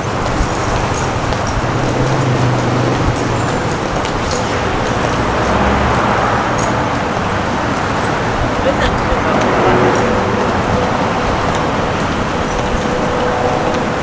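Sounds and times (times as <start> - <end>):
passing engine hum: 0.0 - 14.0
road traffic noise: 0.0 - 14.0.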